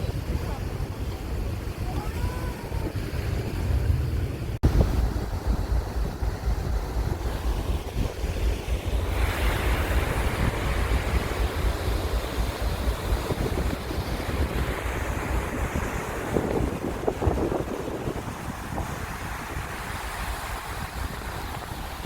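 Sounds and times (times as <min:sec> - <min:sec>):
sea surf washing in: 0:00.0 - 0:22.0
wave breaking: 0:00.0 - 0:22.0
wind buffeting microphone: 0:00.0 - 0:22.0.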